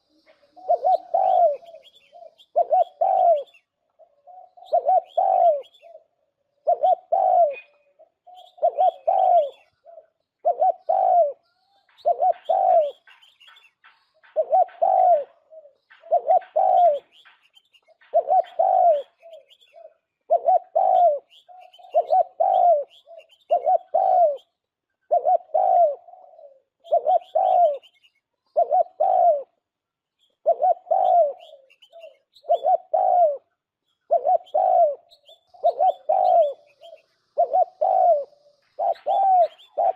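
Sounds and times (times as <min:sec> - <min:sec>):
dove cooing: 0:00.0 - 0:29.7, 0:30.4 - 0:39.9
small birds chirping: 0:00.0 - 0:39.9.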